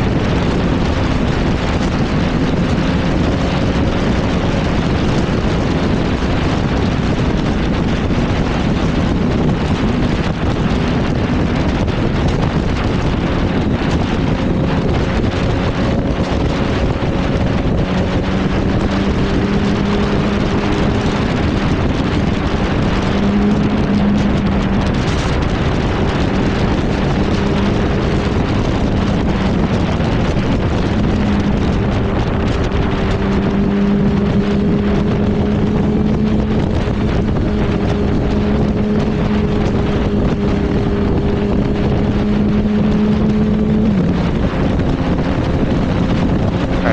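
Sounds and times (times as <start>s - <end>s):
motorcycle engine cruising: 0.0s - 46.9s
wind noise on microphone: 0.0s - 46.9s.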